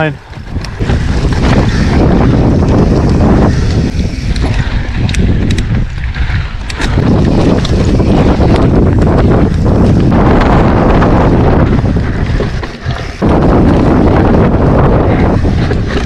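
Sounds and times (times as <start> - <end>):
wind buffeting microphone: 0.0 - 16.0
bike clicks and rattles: 0.2 - 16.0.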